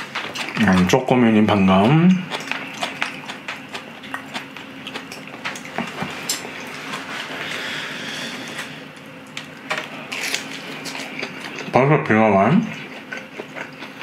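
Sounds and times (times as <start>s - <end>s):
person chewing food: 0.0s - 1.0s, 1.8s - 11.8s, 12.7s - 14.0s.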